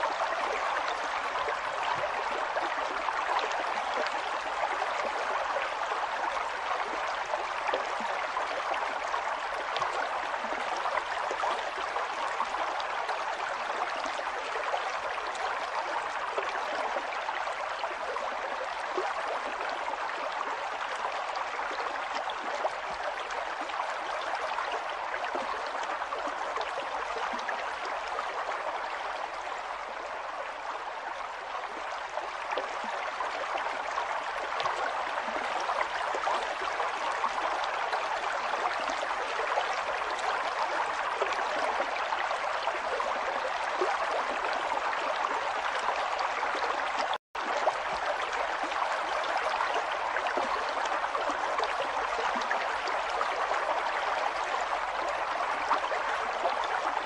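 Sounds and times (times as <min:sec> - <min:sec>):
river water flowing and splashing: 0:00.0 - 0:57.0
water bubbling and gurgling: 0:00.0 - 0:57.0.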